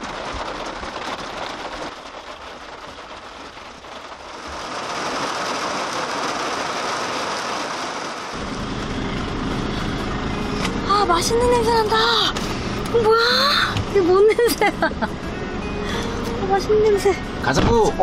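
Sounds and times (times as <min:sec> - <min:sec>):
low vehicle engine rumble: 0:00.0 - 0:18.0
rain falling: 0:00.0 - 0:18.0.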